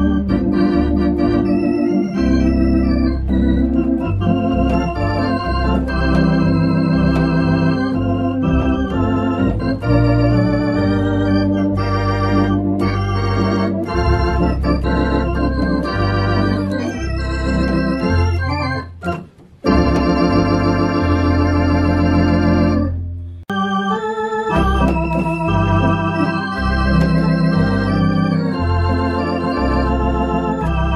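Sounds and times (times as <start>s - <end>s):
electronic organ playing: 0.0s - 30.9s.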